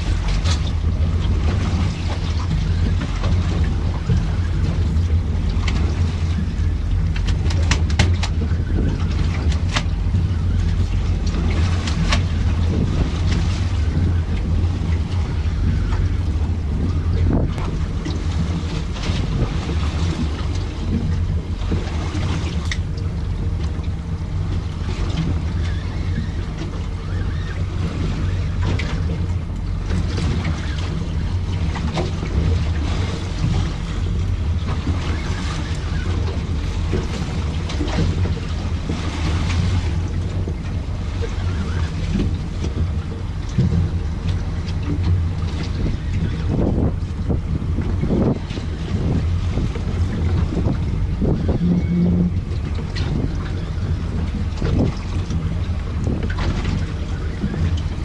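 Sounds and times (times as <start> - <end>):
steady low hum: 0.0 - 58.0
water against hull: 0.0 - 58.0
wind buffeting microphone: 0.0 - 58.0.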